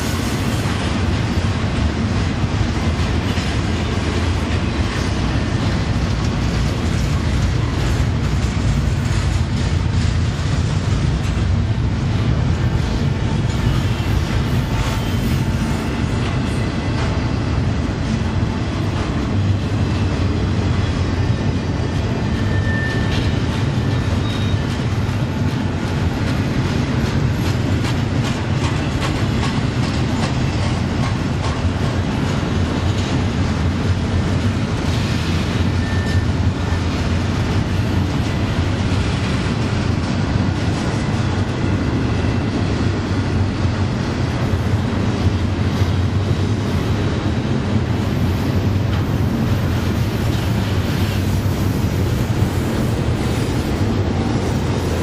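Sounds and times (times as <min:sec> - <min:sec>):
clickety-clack over rail joints: 0:00.0 - 0:55.0
steel wheels rumbling on rail: 0:00.0 - 0:55.0.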